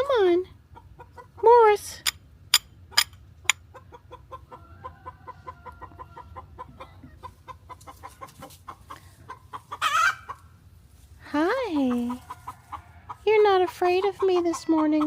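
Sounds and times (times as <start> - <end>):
chickens clucking: 0.2 - 1.8, 2.8 - 15.0.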